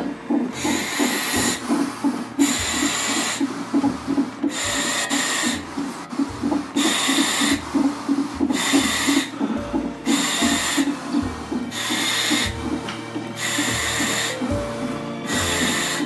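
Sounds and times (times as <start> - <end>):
fetal heartbeat monitor pulse: 0.0 - 16.0
gas valve hissing with whistle: 0.5 - 12.8, 13.4 - 16.0.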